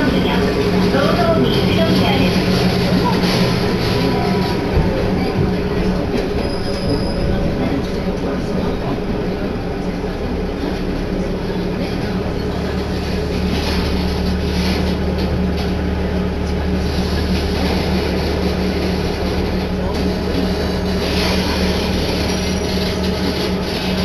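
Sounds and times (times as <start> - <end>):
deep rumble: 0.0 - 24.0
diesel engine drone: 0.0 - 24.0
wheel and track noise: 0.0 - 24.0.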